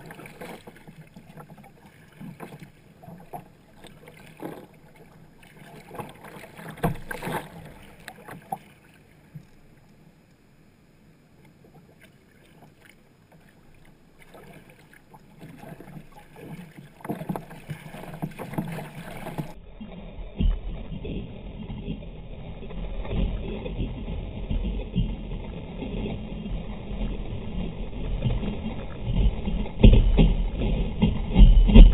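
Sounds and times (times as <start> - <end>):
water slapping against hull: 0.0 - 9.8, 11.4 - 31.9
paddle blades splashing: 0.0 - 10.5, 11.2 - 31.9.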